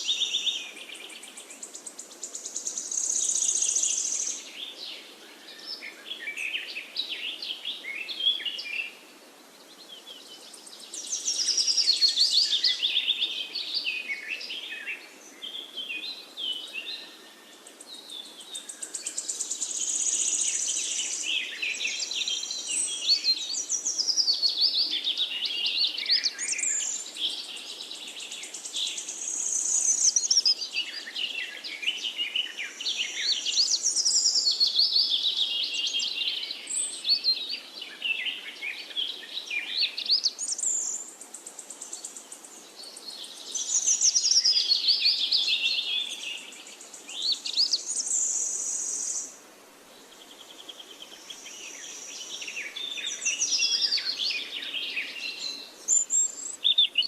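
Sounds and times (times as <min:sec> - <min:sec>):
songbirds warbling and trilling: 0:00.0 - 0:57.0.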